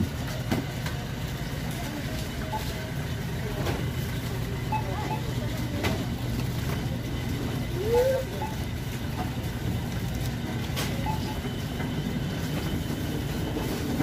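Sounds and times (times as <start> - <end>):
grocery store background rumble: 0.0 - 14.0.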